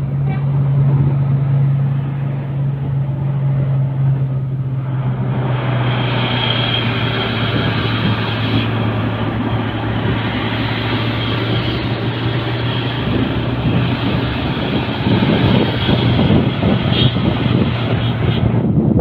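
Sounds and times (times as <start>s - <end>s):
road noise: 0.0s - 19.0s
vehicle engine droning: 0.0s - 19.0s.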